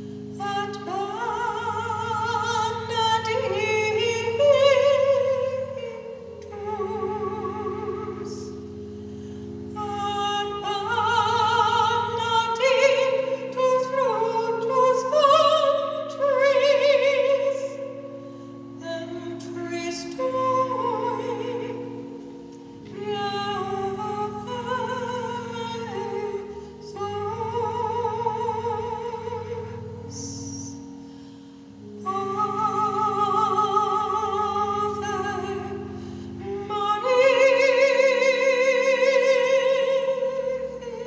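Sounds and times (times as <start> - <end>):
organ chords: 0.0 - 41.0
person singing with vibrato: 0.0 - 41.0.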